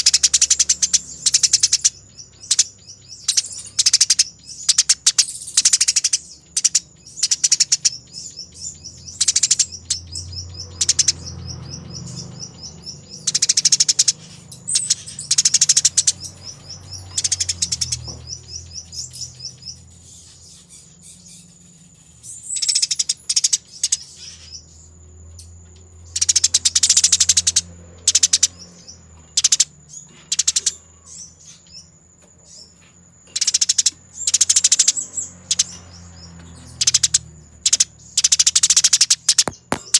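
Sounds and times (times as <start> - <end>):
sparrows chattering: 0.0 - 39.9.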